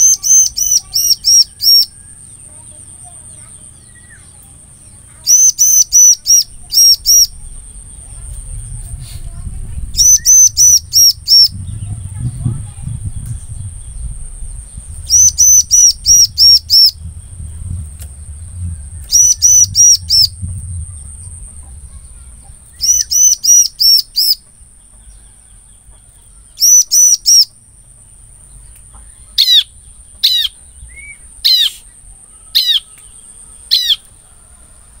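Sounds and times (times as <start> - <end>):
bird chirping: 0.0 - 34.4
steady high-pitched whine: 0.0 - 35.0.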